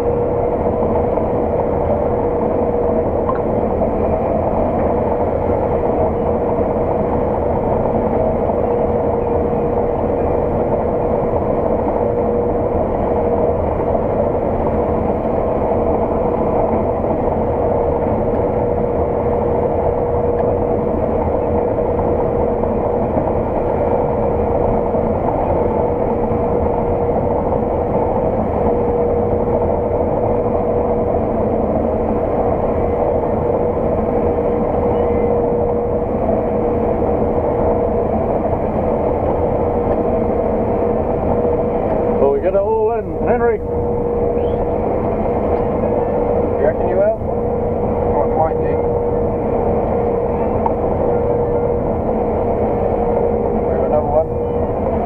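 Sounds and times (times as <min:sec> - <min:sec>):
harvest machinery drone with whine: 0:00.0 - 0:55.0.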